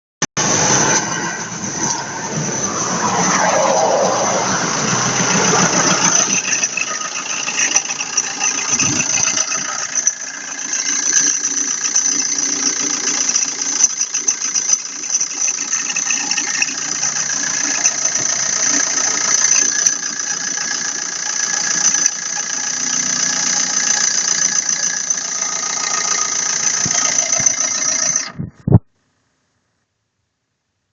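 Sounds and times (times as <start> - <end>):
diesel engine running: 0.4 - 28.8.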